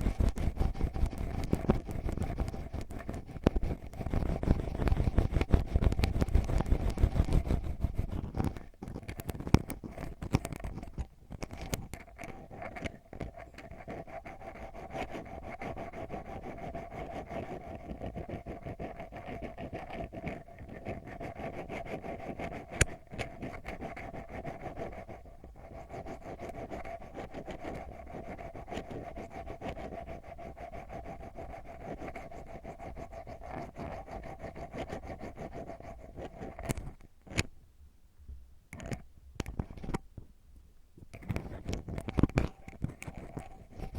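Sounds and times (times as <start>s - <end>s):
ear pick scratching microphone: 0.0s - 37.5s, 41.0s - 43.9s.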